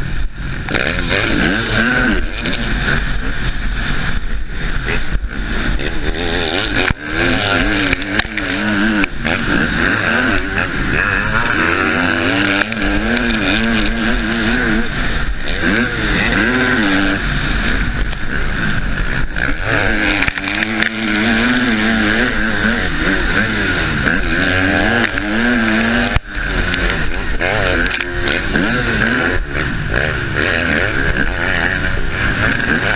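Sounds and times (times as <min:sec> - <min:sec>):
motocross bike engine revving: 0:00.0 - 0:32.9
steady rushing noise: 0:00.0 - 0:32.9.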